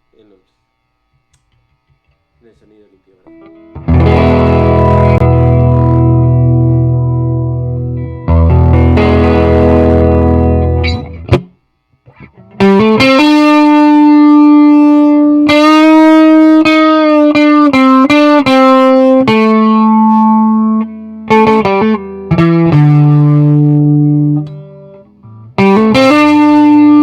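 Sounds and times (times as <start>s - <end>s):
electric guitar chord: 3.3s - 27.0s
electric guitar lead notes: 3.3s - 27.0s.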